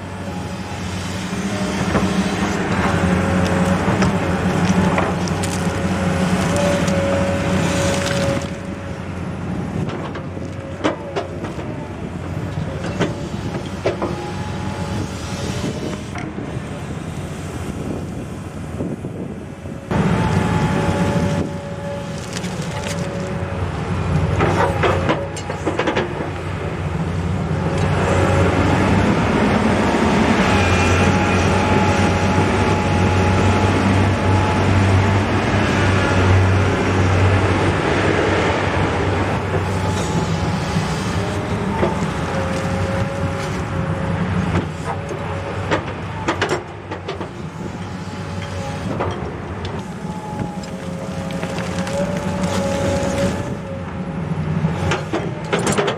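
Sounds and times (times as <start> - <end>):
excavator diesel engine under load: 0.0 - 55.9.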